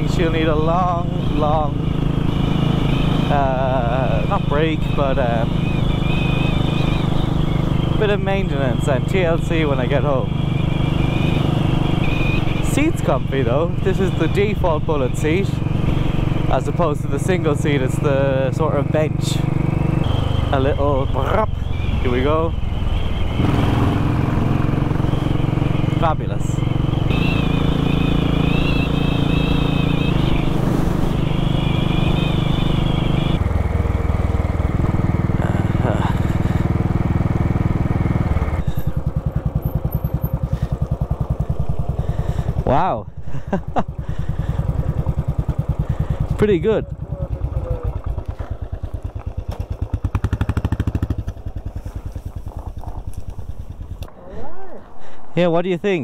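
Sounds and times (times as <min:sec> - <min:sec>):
motorcycle engine pulling hard: 0:00.0 - 0:54.1.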